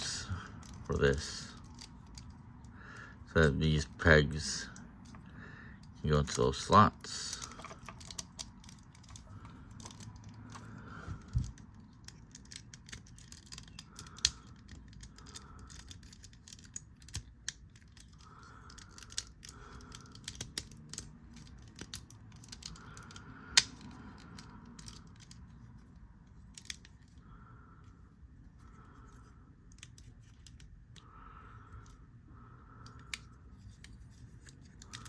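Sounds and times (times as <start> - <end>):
plastic parts clicking and snapping: 0.0 - 27.4, 28.6 - 32.0, 32.6 - 35.0.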